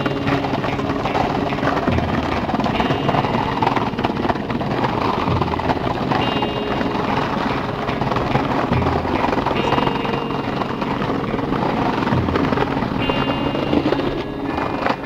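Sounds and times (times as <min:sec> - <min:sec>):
skateboard wheels on brick pavement: 0:00.0 - 0:15.0.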